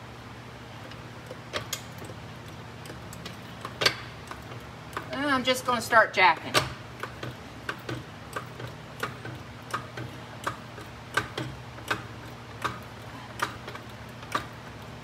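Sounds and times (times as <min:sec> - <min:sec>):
low steady hum: 0:00.0 - 0:15.0
floor jack pumping clicks: 0:00.8 - 0:05.4, 0:06.1 - 0:15.0.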